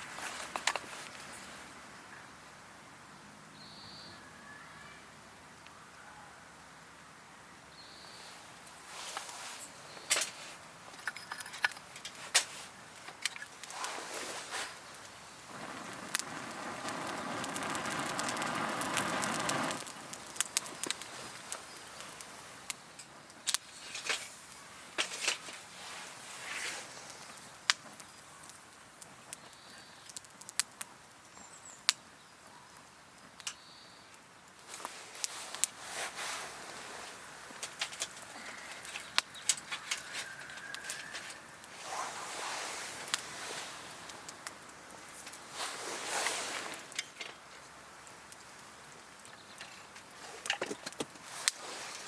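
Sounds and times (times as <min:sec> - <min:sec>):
campfire crackling: 0:00.0 - 0:03.0, 0:07.8 - 0:52.0.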